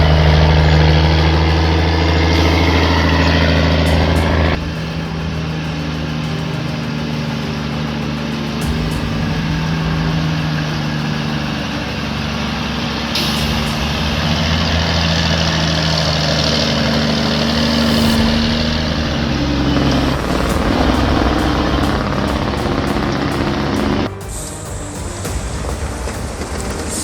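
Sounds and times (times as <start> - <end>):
high air hiss: 0.0 - 27.0
truck diesel engine running: 0.0 - 27.0.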